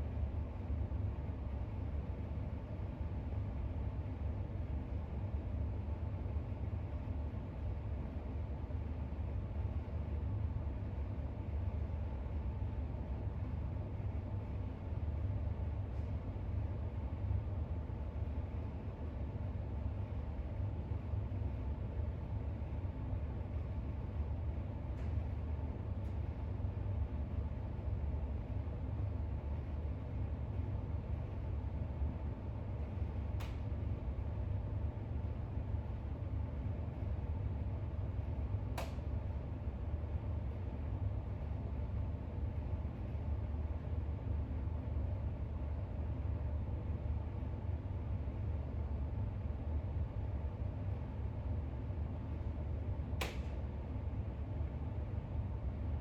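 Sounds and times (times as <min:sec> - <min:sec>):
low rumbling background noise: 0:00.0 - 0:56.0.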